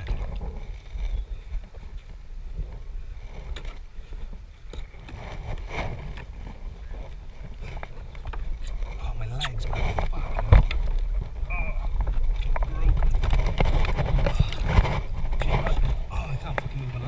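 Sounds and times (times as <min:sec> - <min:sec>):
river water rumble: 0:00.0 - 0:17.0
wind on microphone: 0:00.0 - 0:17.0.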